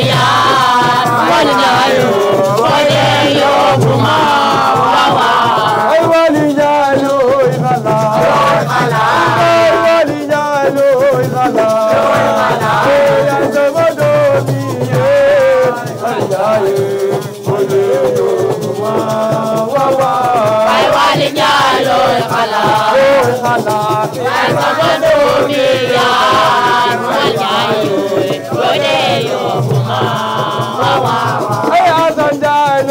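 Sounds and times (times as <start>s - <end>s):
shakers rattling: 0.0s - 32.9s
voices singing a melody: 0.0s - 32.9s.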